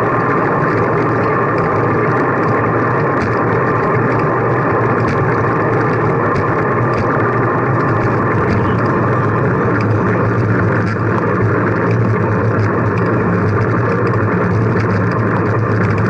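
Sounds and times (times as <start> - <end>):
road noise: 0.0 - 16.0
rushing wind: 0.0 - 16.0.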